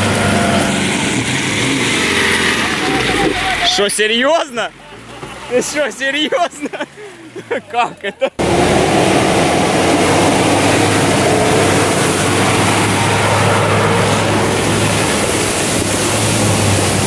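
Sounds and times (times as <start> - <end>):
diesel engine pulling under load: 0.0 - 17.0
tyres splashing through mud and water: 0.0 - 17.0.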